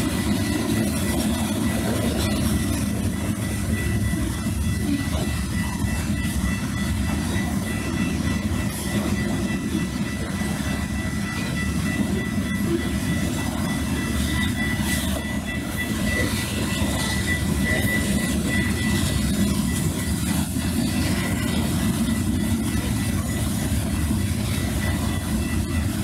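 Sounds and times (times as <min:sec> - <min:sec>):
thin high whine: 0:00.0 - 0:26.0
train wheels rumbling on rails: 0:00.0 - 0:26.0.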